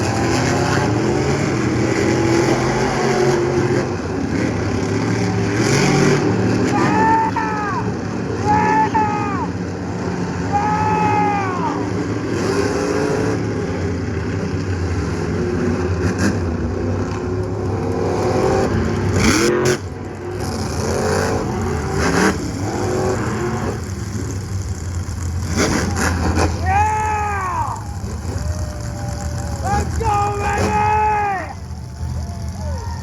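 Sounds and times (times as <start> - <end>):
monster truck engines revving: 0.0 - 33.0.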